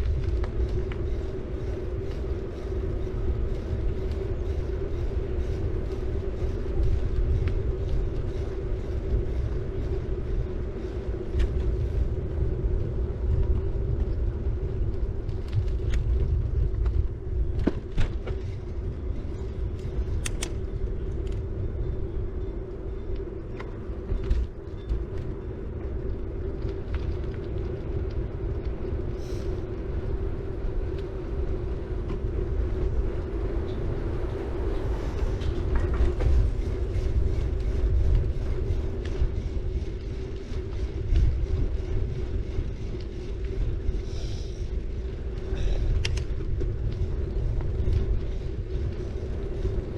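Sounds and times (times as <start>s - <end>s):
bike clicks and rattles: 0.0s - 49.9s
tyres humming on road: 0.0s - 49.9s
wind rumble on microphone: 0.0s - 49.9s.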